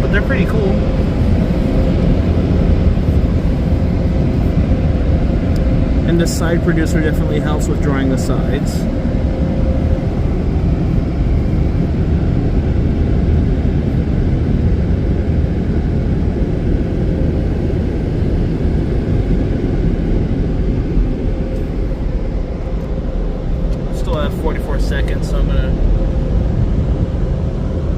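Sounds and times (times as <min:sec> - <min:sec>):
blower dryers blowing air: 0:00.0 - 0:27.9.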